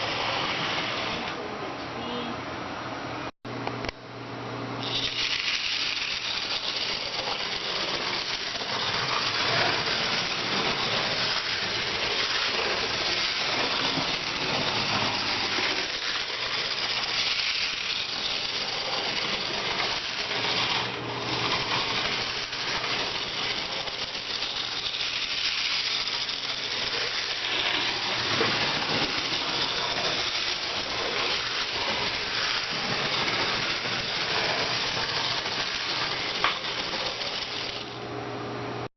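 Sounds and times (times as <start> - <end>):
small mechanism rattling: 4.8 - 38.0.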